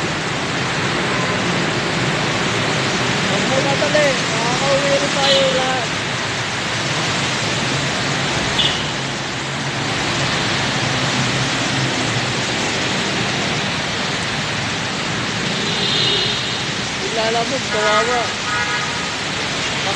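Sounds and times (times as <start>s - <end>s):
car and motorcycle engines hum: 0.0s - 19.9s
heavy rain: 0.0s - 19.9s
tyres hissing on wet road: 0.0s - 19.9s.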